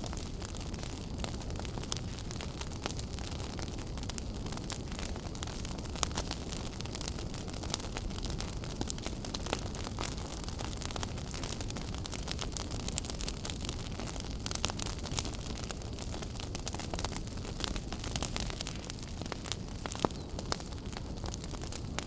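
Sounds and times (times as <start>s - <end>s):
fire crackles and pops: 0.0s - 22.0s
low rumble of flames: 0.0s - 22.0s.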